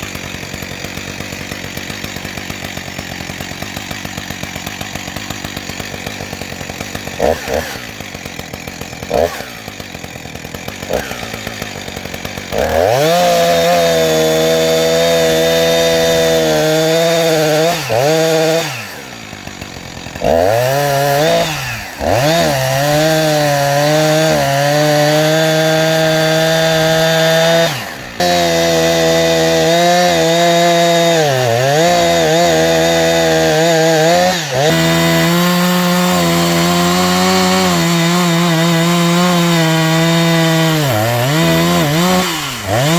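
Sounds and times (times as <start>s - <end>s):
chainsaw cutting log: 0.0s - 42.9s.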